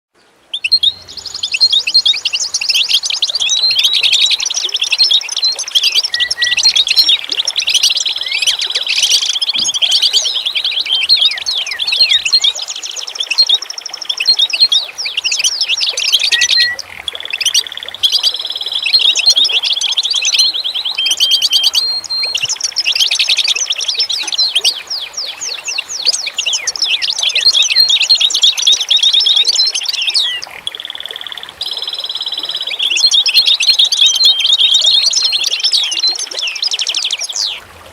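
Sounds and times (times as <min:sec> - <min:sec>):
birds chirping and trilling: 0:00.5 - 0:37.6.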